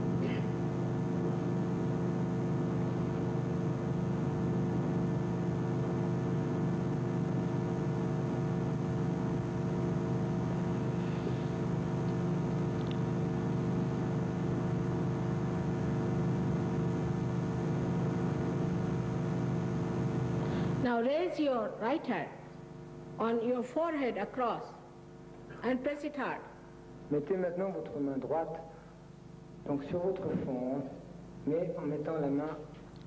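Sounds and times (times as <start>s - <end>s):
electrical hum: 0.0s - 33.0s
tape hiss: 0.0s - 33.0s.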